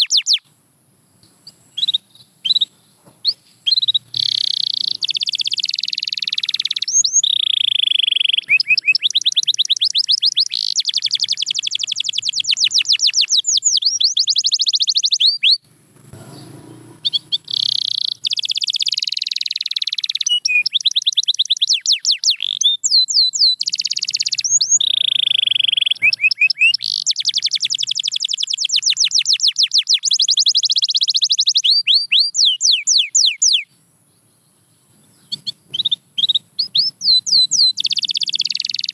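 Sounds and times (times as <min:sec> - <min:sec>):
canary singing trills: 0:00.0 - 0:00.5, 0:01.2 - 0:38.9.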